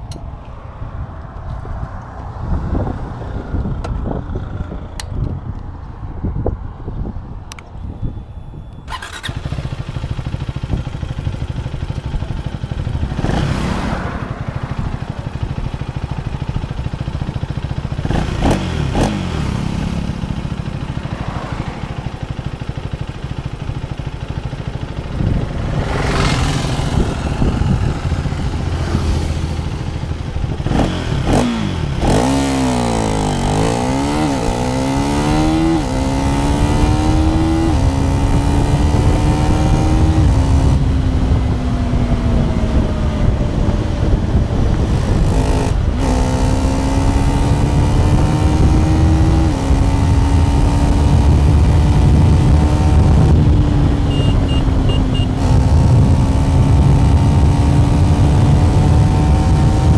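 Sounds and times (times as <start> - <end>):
motorcycle accelerating through gears: 8.9 - 59.9
motorcycle engine revving: 8.9 - 59.9.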